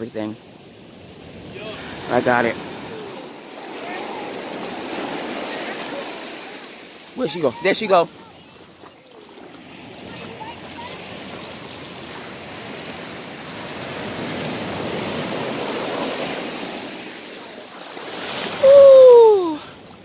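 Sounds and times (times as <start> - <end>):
surf washing over sand: 0.0 - 20.0.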